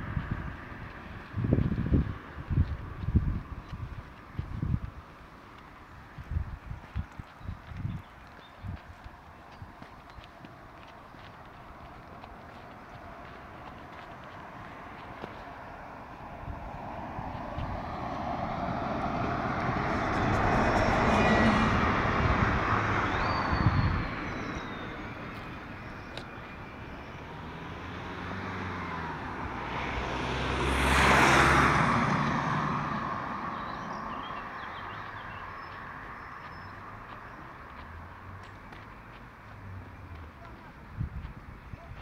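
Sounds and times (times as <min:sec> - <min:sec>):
vehicles driving past: 0:00.0 - 0:42.0.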